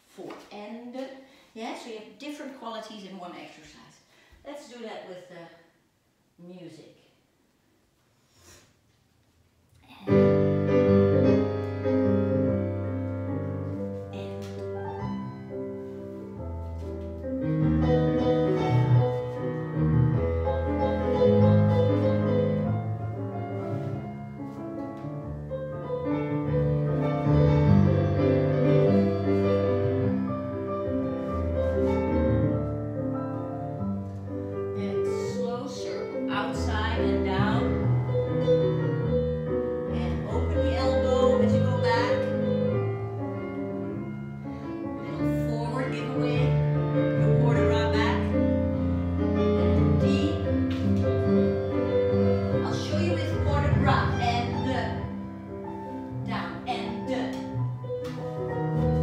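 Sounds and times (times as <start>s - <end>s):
solo piano playing chords: 10.1s - 59.0s.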